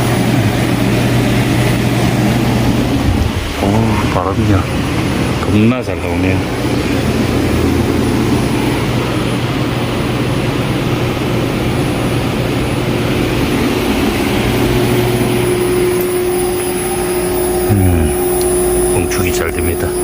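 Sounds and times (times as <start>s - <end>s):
fan blowing air: 0.0s - 20.0s
low hum of refrigeration unit: 0.0s - 20.0s.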